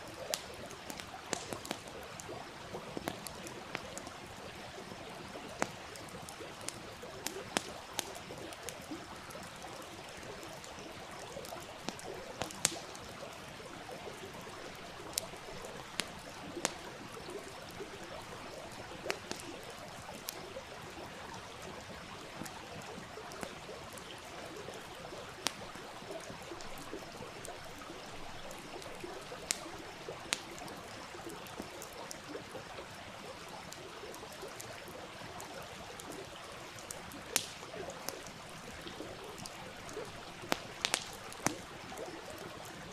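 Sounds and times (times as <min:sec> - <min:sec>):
campfire crackling: 0:00.0 - 0:42.9
stream rushing and trickling: 0:00.0 - 0:42.9.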